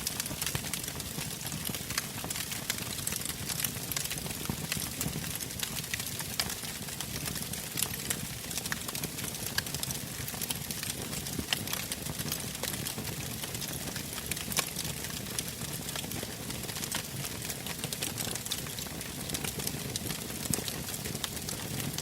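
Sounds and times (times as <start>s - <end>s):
wood fire crackling and popping: 0.0s - 22.0s
low rumble of flames: 0.2s - 22.0s.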